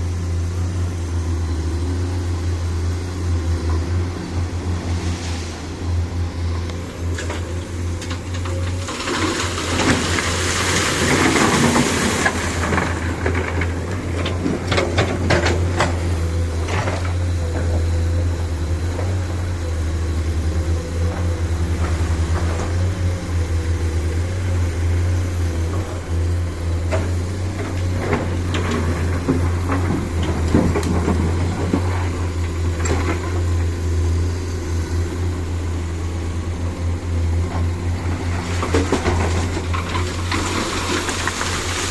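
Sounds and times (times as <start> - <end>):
diesel truck engine drone: 0.0 - 41.9.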